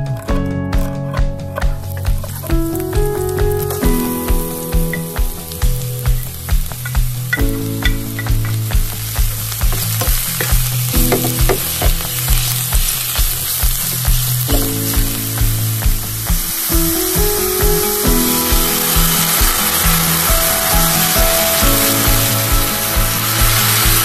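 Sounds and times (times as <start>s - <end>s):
background music with steady beat: 0.0s - 24.0s
mushrooms sizzling in hot oil: 1.9s - 24.0s.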